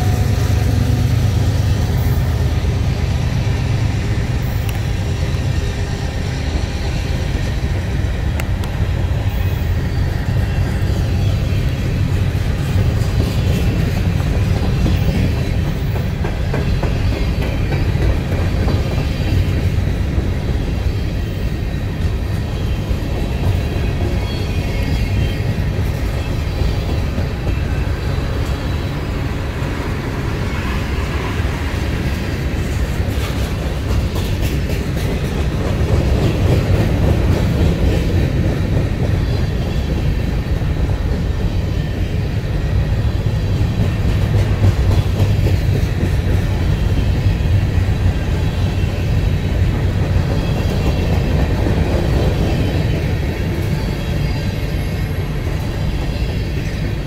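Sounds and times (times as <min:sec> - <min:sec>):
freight train wheels rumbling: 0:00.0 - 0:57.0
rail clicks: 0:00.0 - 0:57.0.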